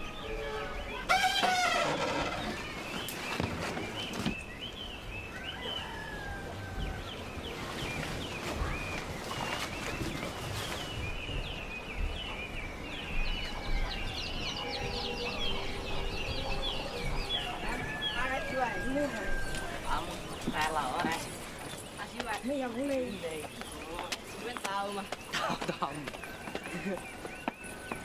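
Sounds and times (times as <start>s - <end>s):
birds chirping: 0.0s - 28.0s
outdoor background: 0.0s - 28.0s.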